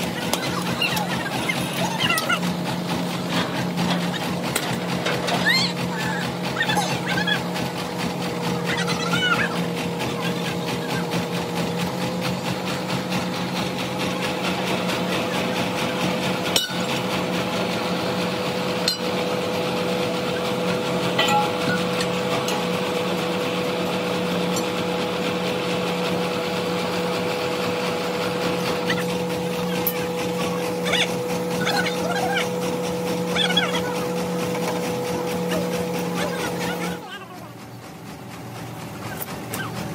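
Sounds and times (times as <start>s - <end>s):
truck engine and hydraulic pump hum: 0.0s - 39.9s.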